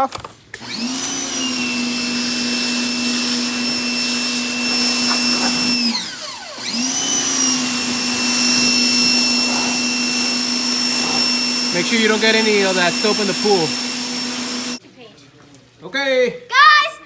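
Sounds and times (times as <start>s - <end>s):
pressure washer motor whine: 0.6s - 14.8s
water spray hissing: 0.8s - 14.8s.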